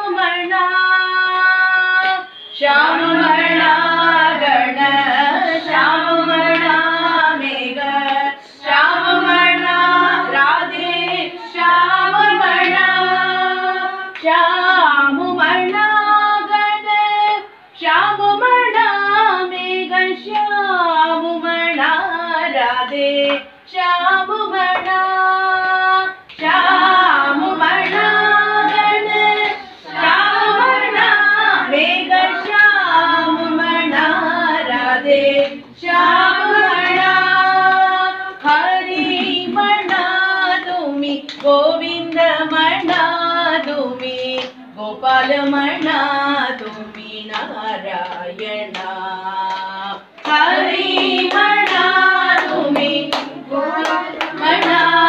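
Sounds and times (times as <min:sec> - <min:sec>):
women singing devotional chant: 0:00.0 - 0:55.0.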